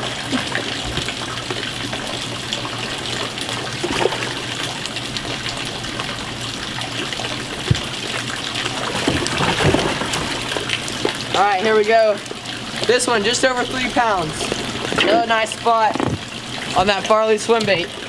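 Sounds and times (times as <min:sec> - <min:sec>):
pump humming: 0:00.0 - 0:18.0
water trickling and spraying: 0:00.0 - 0:18.0.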